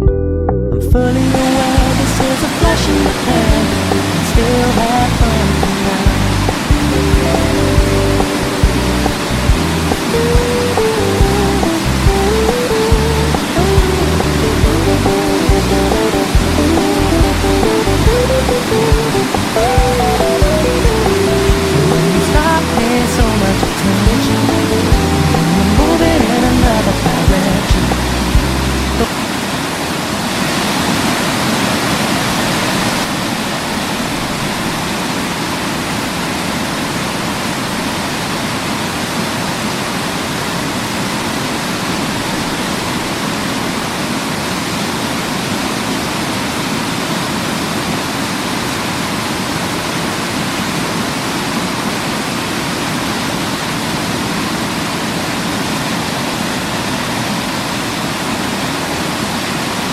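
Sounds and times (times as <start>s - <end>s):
waterfall rushing: 1.1s - 59.9s.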